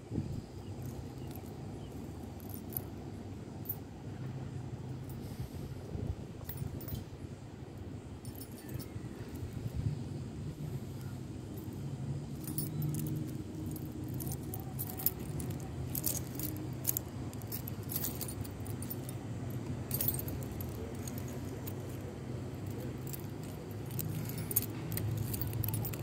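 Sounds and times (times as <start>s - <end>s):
steady low hum: 0.0s - 26.0s
light metallic jingling: 0.6s - 5.6s, 6.4s - 26.0s.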